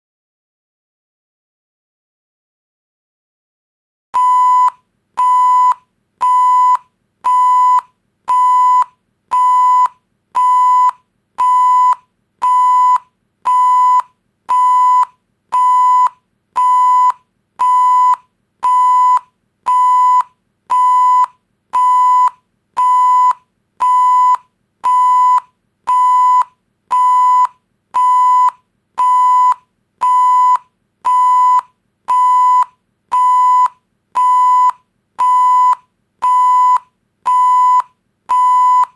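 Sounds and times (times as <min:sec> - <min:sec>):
censor bleep beeps: 0:04.2 - 0:38.9.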